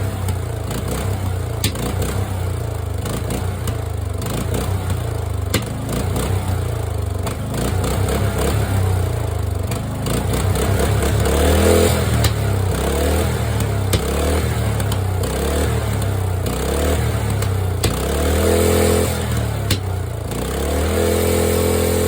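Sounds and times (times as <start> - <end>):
engine backfire pops: 0.0 - 8.8, 9.6 - 20.9
lawn mower engine running unevenly: 0.0 - 22.0.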